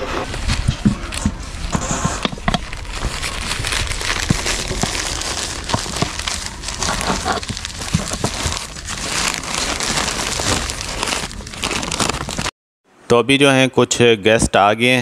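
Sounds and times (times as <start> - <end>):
newspaper rustling and crinkling: 0.2 - 12.5.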